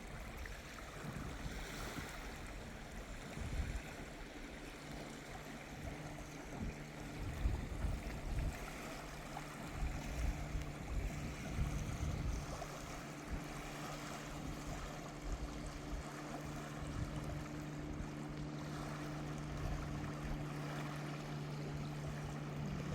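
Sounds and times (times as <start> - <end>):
waves washing on a beach: 0.0 - 22.9
wind buffeting microphone: 0.0 - 22.9
steady low hum: 0.1 - 22.9.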